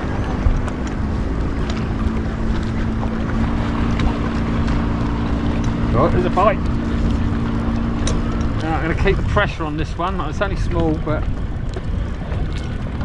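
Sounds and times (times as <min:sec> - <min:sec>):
boat motor humming: 0:00.0 - 0:13.0
wind rumble on microphone: 0:00.0 - 0:13.0.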